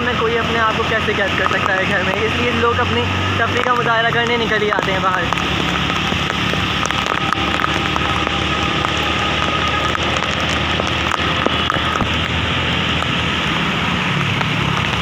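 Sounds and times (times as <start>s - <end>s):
heavy rain falling: 0.0s - 15.0s
raindrops ticking: 0.0s - 15.0s.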